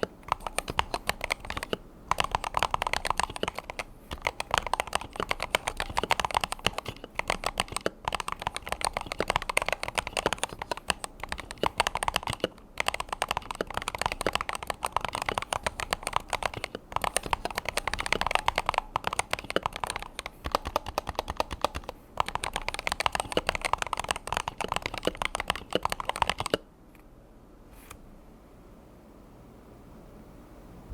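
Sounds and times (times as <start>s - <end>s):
keyboard typing clicks: 0.0s - 26.6s.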